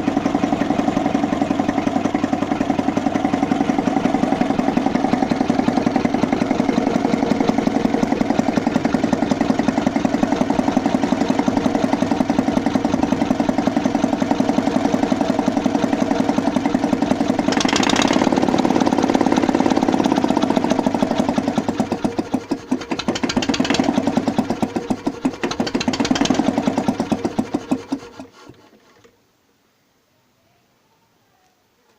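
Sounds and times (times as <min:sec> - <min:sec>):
diesel engine running: 0:00.0 - 0:28.8.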